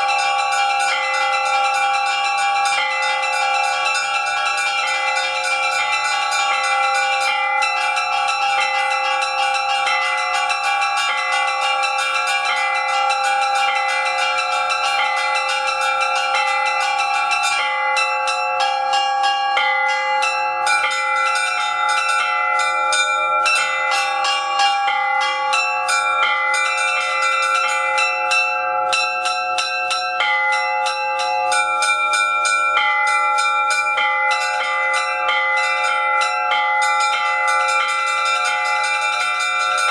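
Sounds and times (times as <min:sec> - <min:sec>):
large bells ringing: 0:00.0 - 0:39.9
small bells chiming fast: 0:00.0 - 0:39.9.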